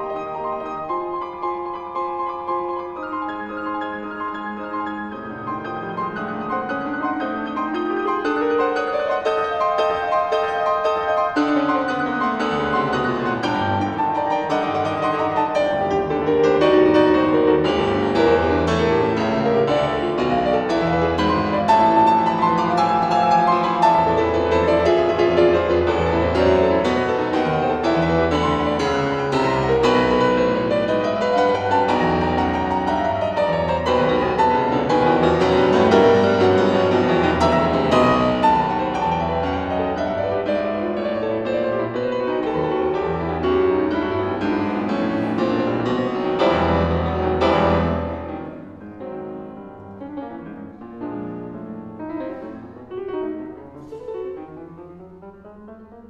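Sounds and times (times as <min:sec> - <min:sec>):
solo classical piano: 0:00.0 - 0:56.0.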